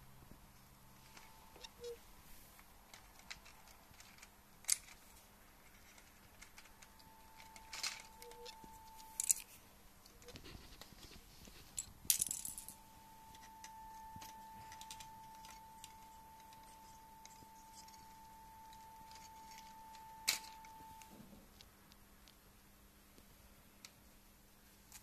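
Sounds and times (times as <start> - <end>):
faint high whine: 0.0 - 22.4.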